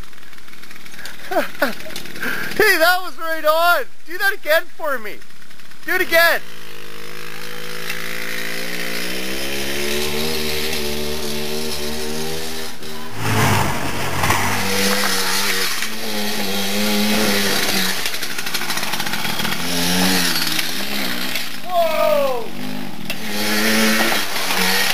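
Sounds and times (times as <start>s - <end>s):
two-stroke dirt bike engine: 0.0s - 4.0s, 4.8s - 24.9s.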